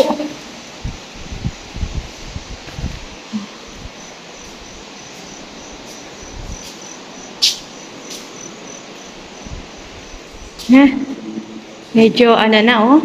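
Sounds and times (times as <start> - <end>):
cricket chirping: 0.0 - 12.7
steady hiss: 0.0 - 13.0.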